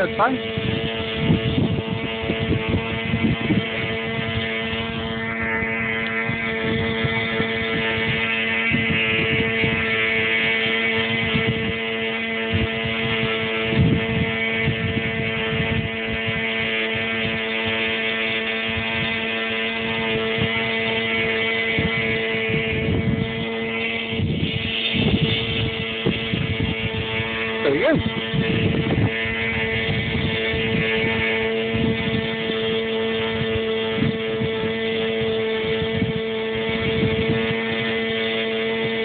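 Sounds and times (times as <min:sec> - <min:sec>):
model plane motor and propeller whining: 0:00.0 - 0:39.0
wind buffeting microphone: 0:00.0 - 0:39.0.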